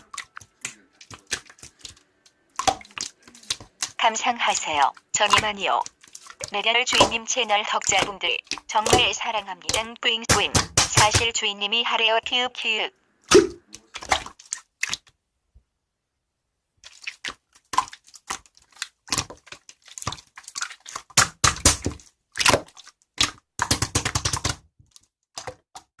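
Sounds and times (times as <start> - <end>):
clicks taps and crinkles: 0.0 - 12.9, 13.6 - 15.7, 16.8 - 26.0.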